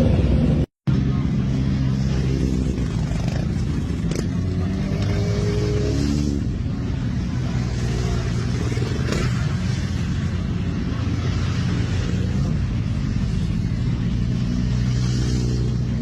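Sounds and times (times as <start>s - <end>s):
motorcycle engines droning: 0.0s - 16.0s.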